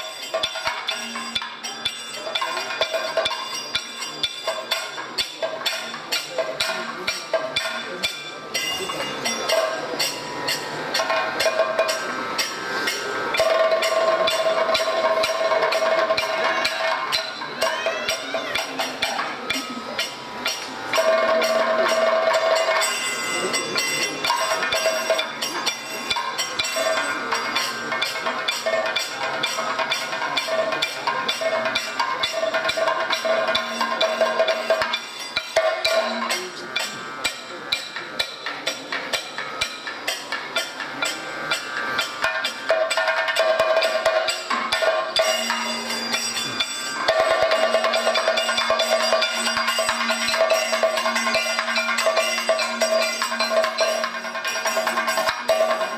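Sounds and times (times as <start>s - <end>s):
bright metallic shimmer: 0.0s - 55.9s
rapid drum strokes: 0.0s - 55.9s
ringing metal percussion: 0.0s - 55.9s
steady ringing tone: 0.0s - 55.9s.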